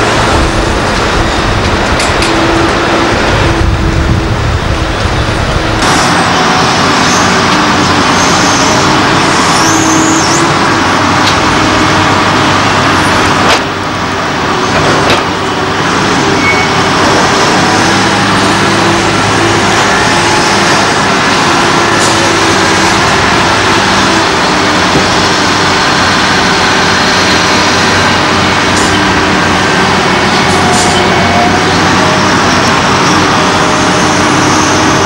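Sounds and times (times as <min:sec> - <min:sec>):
diesel machinery engine drone: 0:00.0 - 0:35.0.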